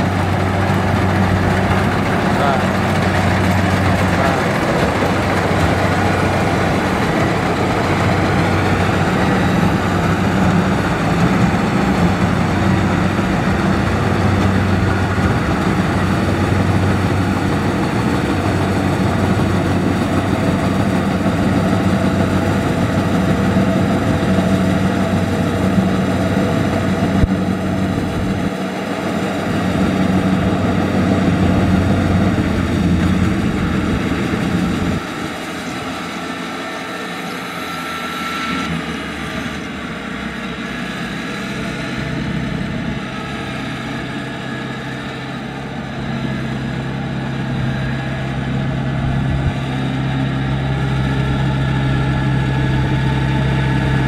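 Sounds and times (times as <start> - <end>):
combine harvester engine hum: 0.0 - 54.0.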